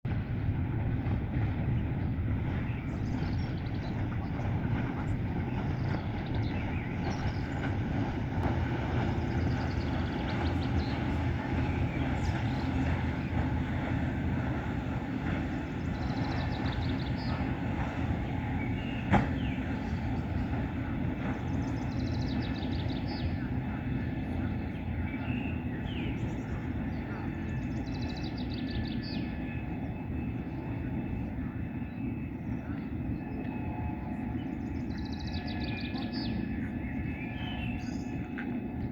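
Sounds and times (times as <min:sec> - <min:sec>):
low engine drone: 0:00.1 - 0:38.9.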